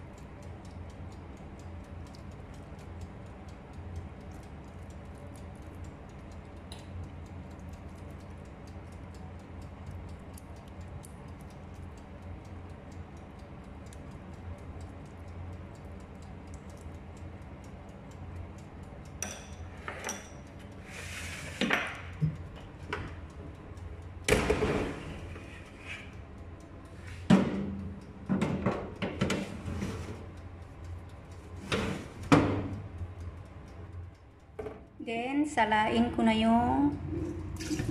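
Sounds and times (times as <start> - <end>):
faint rapid ticking: 0.0 - 37.6
steady low hum: 0.0 - 37.9.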